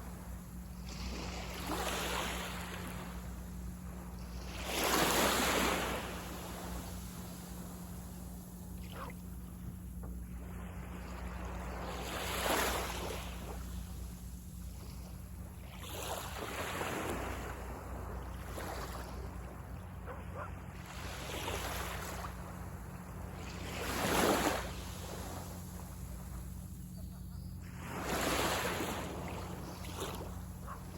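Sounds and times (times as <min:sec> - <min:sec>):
sea waves breaking on beach: 0:00.0 - 0:30.9.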